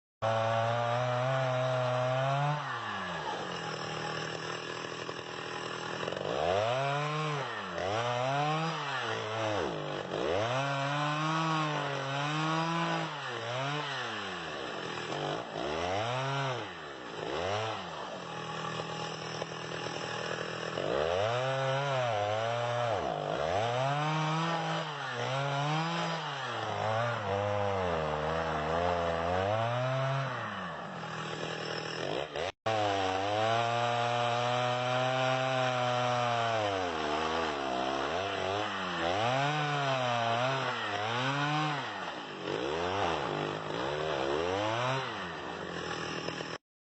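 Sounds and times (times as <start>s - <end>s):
chainsaw engine revving: 0.2s - 46.6s.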